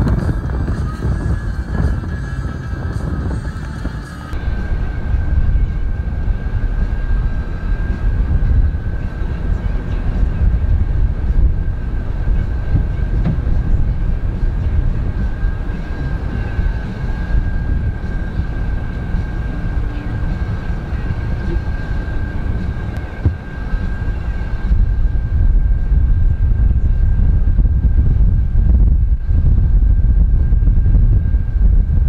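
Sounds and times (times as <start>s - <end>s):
thin high whine: 0.0s - 32.0s
wind buffeting microphone: 0.0s - 32.0s.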